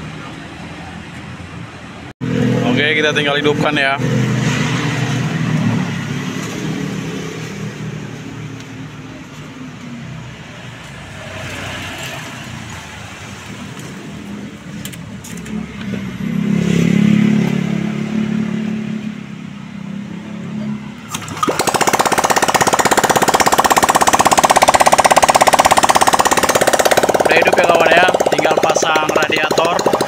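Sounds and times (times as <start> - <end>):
motorcycle engine starting and running: 0.0 - 30.0.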